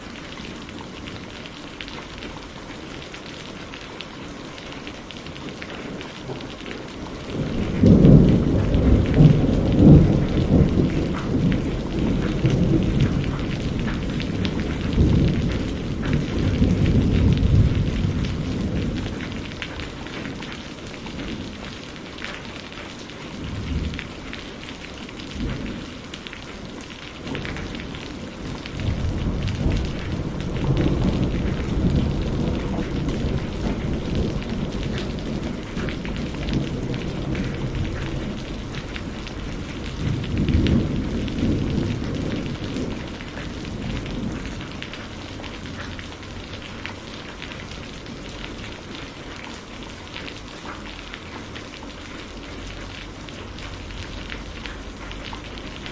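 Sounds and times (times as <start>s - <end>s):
rain pattering: 0.0s - 55.9s
thunder rumbling: 5.2s - 21.8s, 23.3s - 50.0s, 52.3s - 55.9s.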